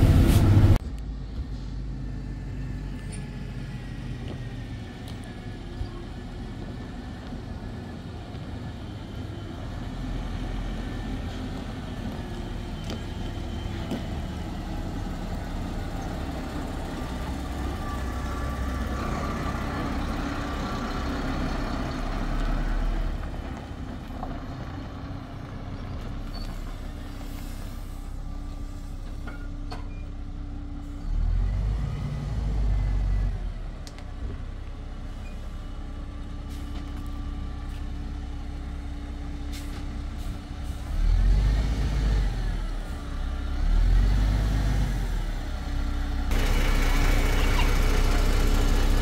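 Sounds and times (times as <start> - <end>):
dump truck diesel engine revving: 1.8 - 29.0, 30.4 - 34.0, 38.2 - 49.0.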